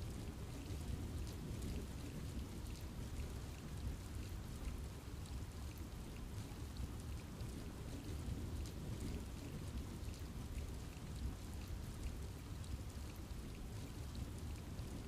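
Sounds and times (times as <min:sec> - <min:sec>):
rain falling on forest: 0:00.0 - 0:15.0.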